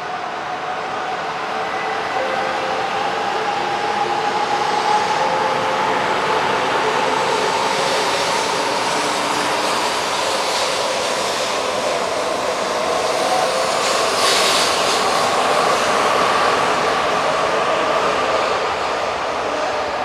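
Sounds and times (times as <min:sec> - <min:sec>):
train rushing noise: 0:00.0 - 0:20.0.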